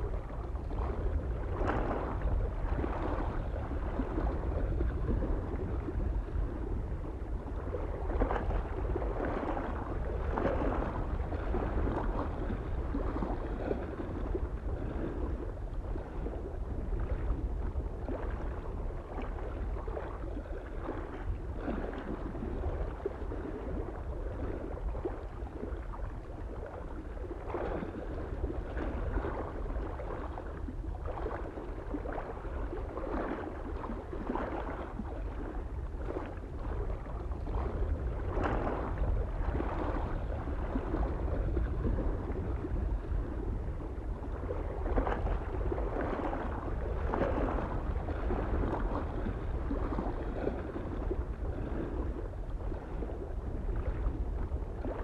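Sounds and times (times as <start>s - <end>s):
low wind rumble: 0.0s - 55.0s
small waves lapping on shore: 0.0s - 55.0s.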